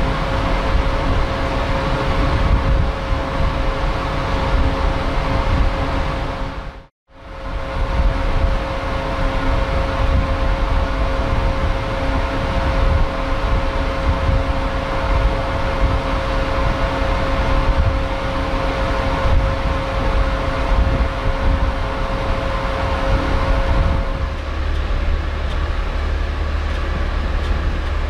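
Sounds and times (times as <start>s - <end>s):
ship engine drone: 0.0s - 28.0s.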